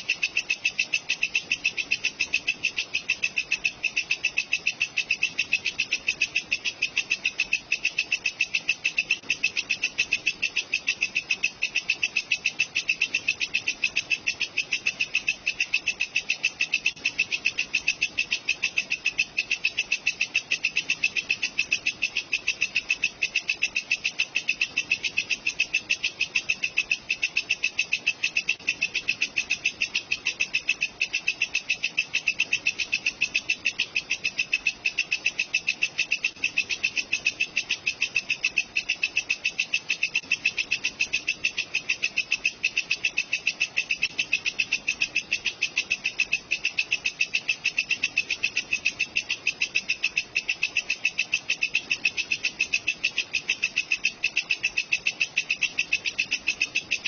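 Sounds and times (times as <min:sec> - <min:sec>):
insect calling rapid pulses: 0:00.0 - 0:57.0.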